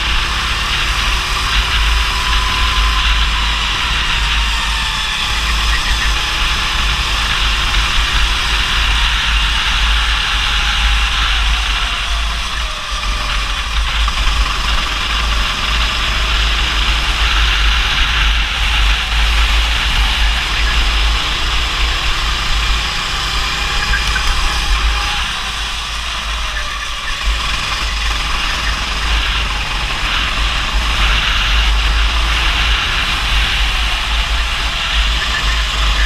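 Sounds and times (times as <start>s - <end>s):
go-kart engine running: 0.0s - 36.0s
wind rumble on microphone: 0.0s - 36.0s.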